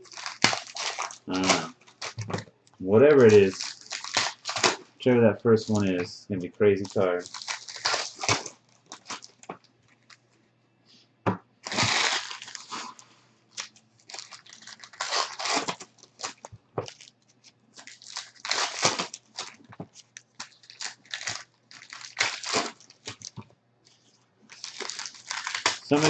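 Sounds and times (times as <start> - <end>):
card pack wrappers crinkling: 0.0 - 2.4, 3.0 - 4.9, 5.6 - 10.3, 11.6 - 26.0.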